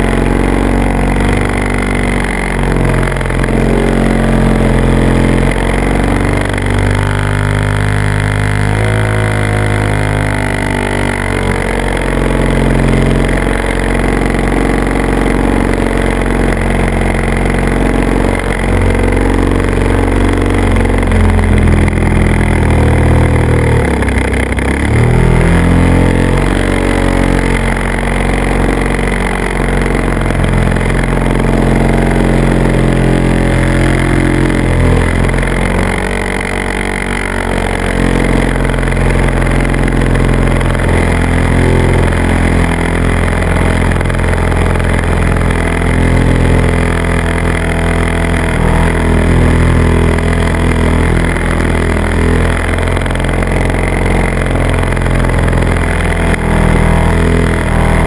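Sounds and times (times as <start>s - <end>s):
model aircraft motor and propeller: 0.0s - 58.0s.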